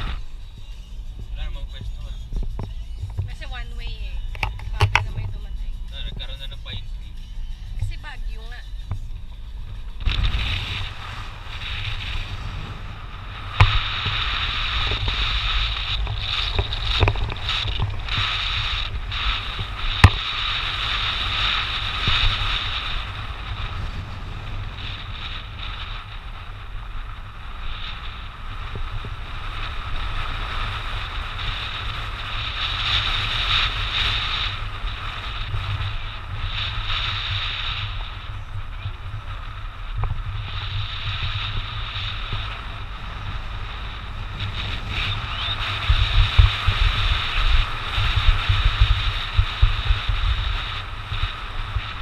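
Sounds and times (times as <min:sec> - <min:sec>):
vehicle running noise: 0:00.0 - 0:52.0
wind on microphone: 0:00.0 - 0:52.0.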